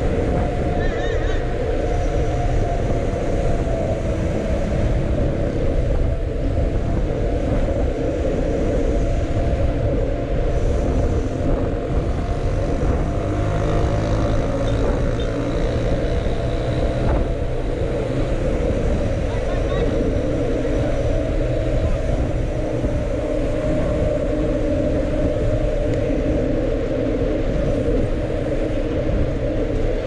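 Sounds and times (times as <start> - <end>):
road noise: 0.0 - 30.0
wind rumbling on microphone: 0.0 - 30.0.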